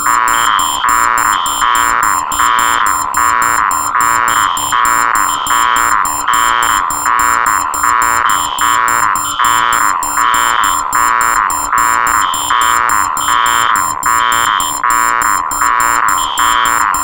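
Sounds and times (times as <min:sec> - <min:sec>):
fast electronic alarm beep: 0:00.0 - 0:17.0
higher electronic alarm beep: 0:00.0 - 0:17.0
rapid high chirps: 0:00.0 - 0:17.0
steady alarm tone: 0:00.0 - 0:17.0.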